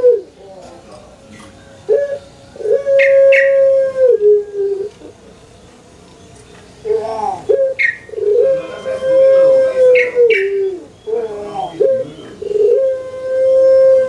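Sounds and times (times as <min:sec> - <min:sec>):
dove cooing: 0:00.0 - 0:05.2, 0:06.8 - 0:14.0.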